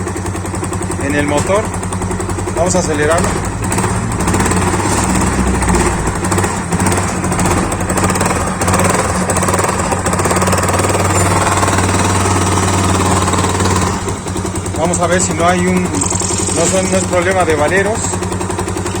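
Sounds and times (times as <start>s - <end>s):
motorcycle engine running: 0.0s - 19.0s
rapid knocking rattle in engine: 0.0s - 19.0s.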